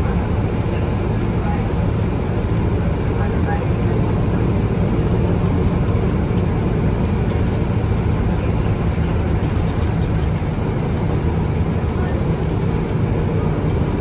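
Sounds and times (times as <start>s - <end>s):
diesel bus engine running: 0.0s - 14.0s
road and tyre rumble: 0.0s - 14.0s.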